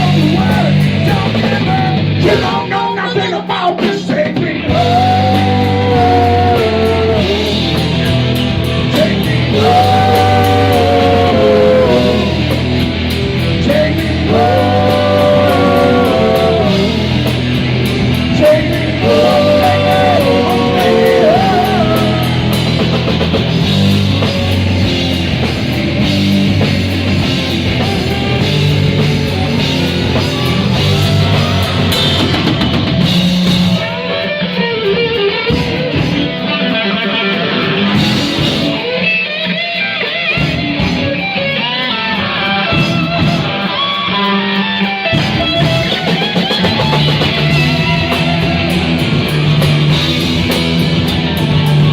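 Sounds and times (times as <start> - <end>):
bass guitar: 0.0 - 51.9
drum kit: 0.0 - 51.9
electric guitar lead: 0.0 - 51.9.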